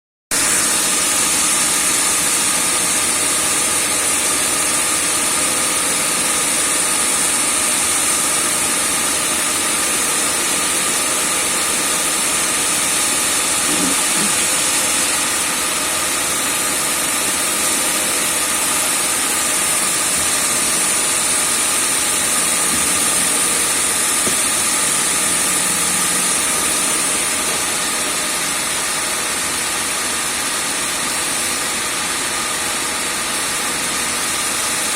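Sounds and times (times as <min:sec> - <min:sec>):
grinder running: 0:00.3 - 0:34.9.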